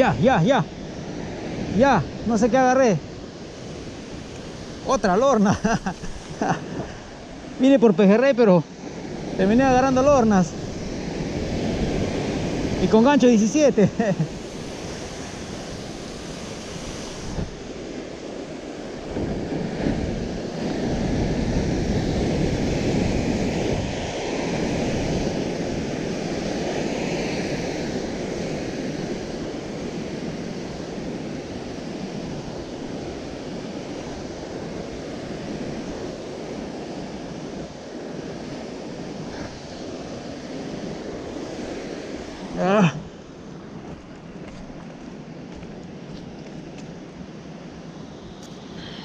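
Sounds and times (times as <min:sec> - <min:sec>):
ocean surf breaking over rocks: 0:00.0 - 0:49.0.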